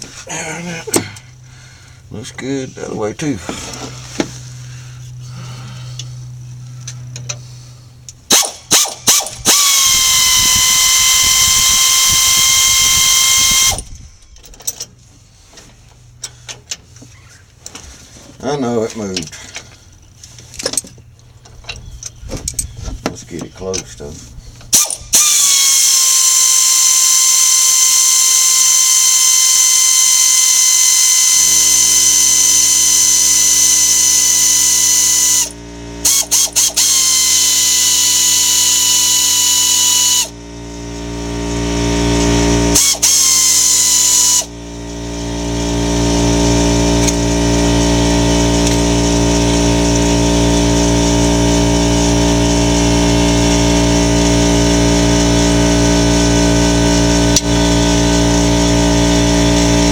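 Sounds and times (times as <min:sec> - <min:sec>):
power tool whining: 0:00.0 - 0:23.7, 0:24.4 - 0:59.9
low pulsing hum: 0:00.0 - 0:59.9.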